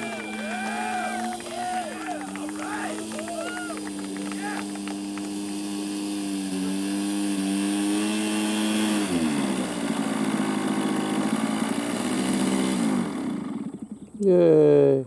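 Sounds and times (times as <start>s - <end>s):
model airplane engine running: 0.0s - 14.8s.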